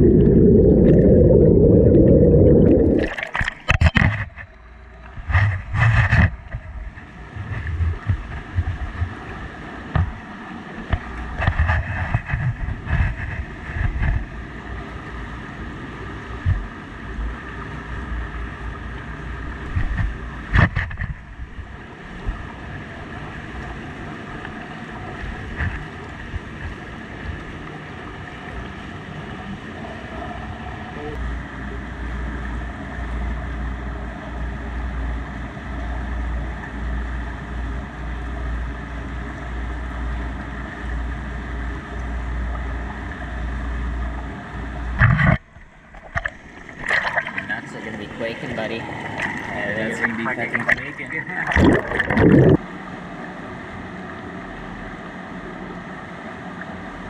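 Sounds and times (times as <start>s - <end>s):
wind: 0.0s - 57.0s.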